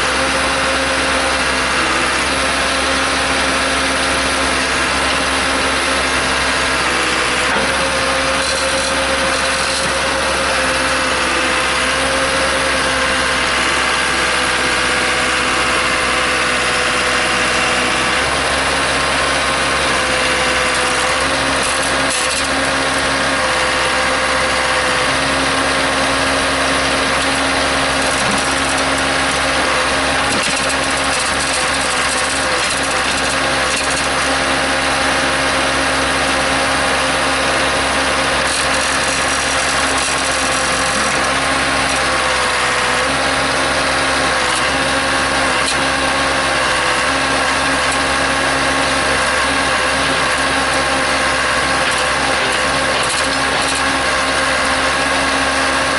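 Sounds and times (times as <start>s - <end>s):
backhoe engine running: 0.0s - 55.9s.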